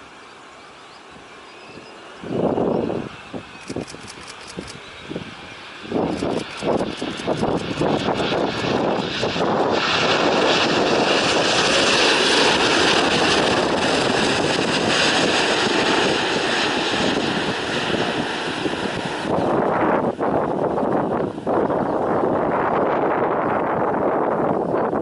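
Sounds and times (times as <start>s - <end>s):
jet engine rush: 0.0s - 25.0s.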